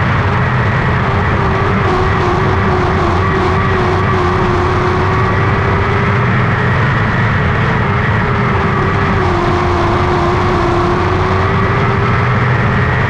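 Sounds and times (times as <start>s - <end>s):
race car engine running: 0.0s - 13.0s.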